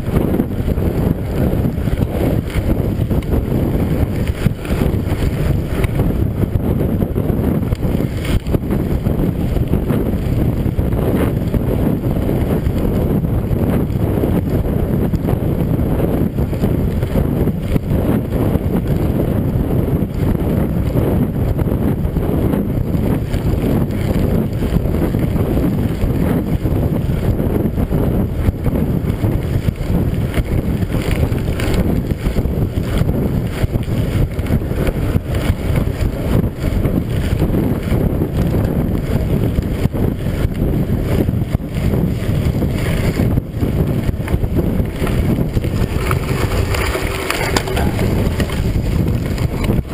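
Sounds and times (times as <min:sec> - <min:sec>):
bike tyres rolling on gravel: 0:00.0 - 0:49.9
wind noise on microphone: 0:00.0 - 0:49.9.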